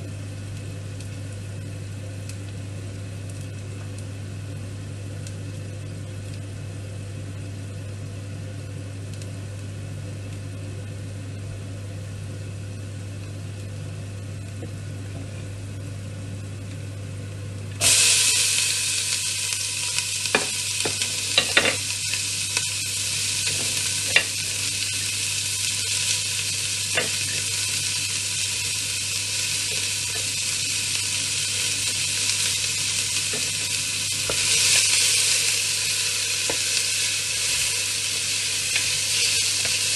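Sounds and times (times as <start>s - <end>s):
onion sizzling in hot oil: 0.0s - 39.9s
steady low hum: 0.0s - 39.9s.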